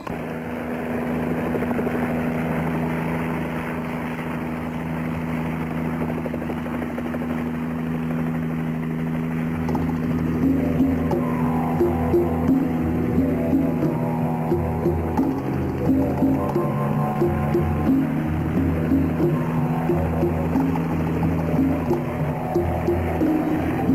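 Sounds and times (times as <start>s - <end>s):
helicopter flying overhead: 0.0s - 23.9s.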